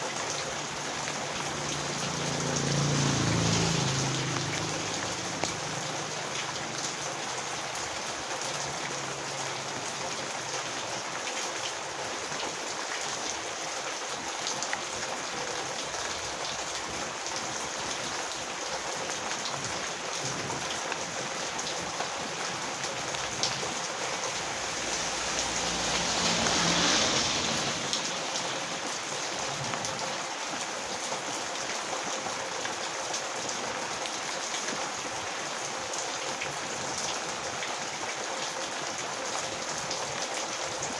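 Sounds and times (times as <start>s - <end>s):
heavy rain on road: 0.0s - 40.9s.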